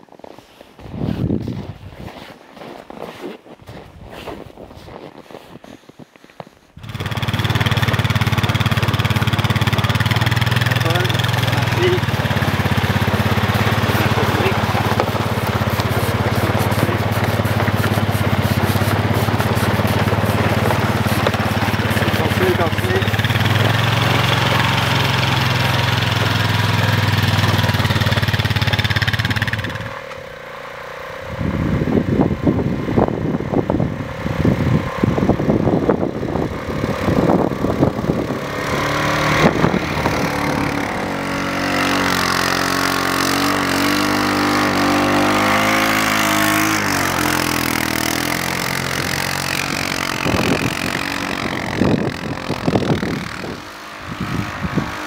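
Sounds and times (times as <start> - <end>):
tracks churning through snow: 0.0 - 30.8, 34.6 - 55.0
atv engine: 6.8 - 55.0.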